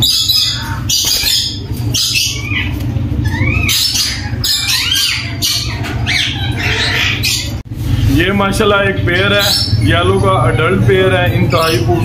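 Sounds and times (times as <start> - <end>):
parakeets screeching squawks: 0.0 - 7.6, 8.9 - 12.0
steady low hum: 0.0 - 12.0.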